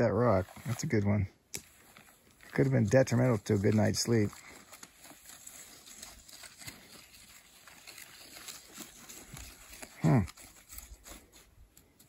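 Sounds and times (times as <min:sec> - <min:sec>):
faint rustling: 0:00.1 - 0:12.0.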